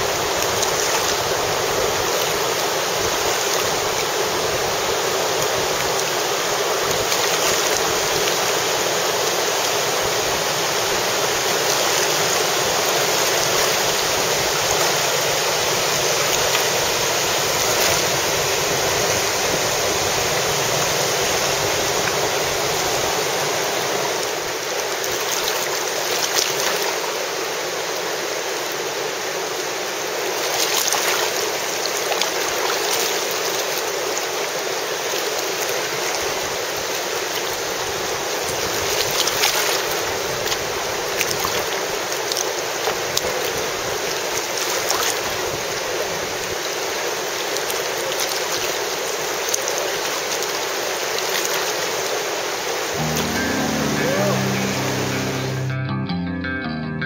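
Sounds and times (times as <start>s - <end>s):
river rapids rushing: 0.0s - 55.7s.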